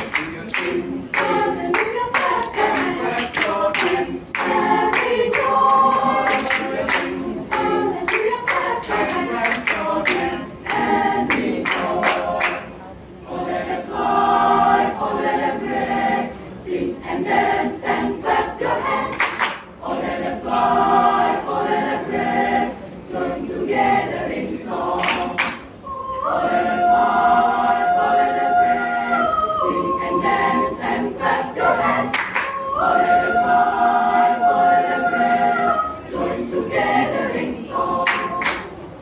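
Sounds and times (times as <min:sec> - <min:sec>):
children's choir singing: 0:00.0 - 0:39.0.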